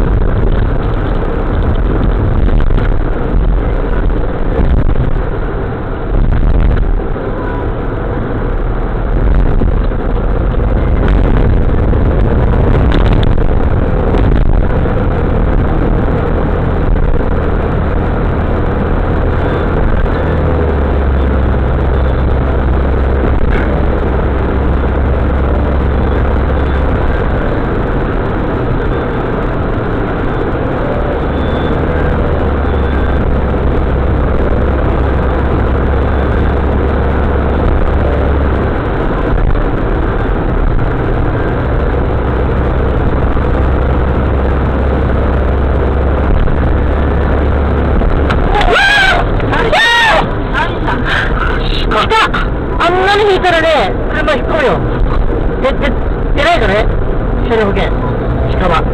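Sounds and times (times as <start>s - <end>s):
vehicle engine and road noise: 0.0s - 58.9s.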